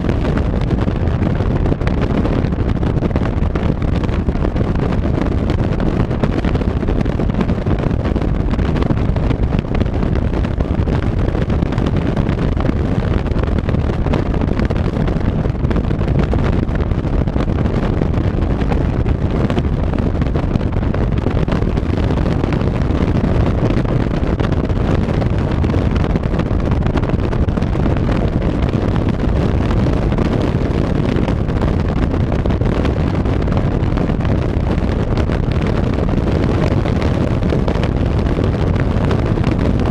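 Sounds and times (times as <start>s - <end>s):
vehicle engine and road noise: 0.0s - 39.9s
wind buffeting microphone: 0.0s - 39.9s.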